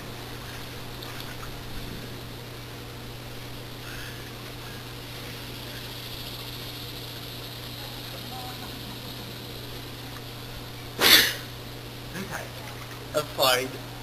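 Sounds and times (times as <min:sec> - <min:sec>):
faint hiss: 0:00.0 - 0:12.5
low hum: 0:00.0 - 0:14.0.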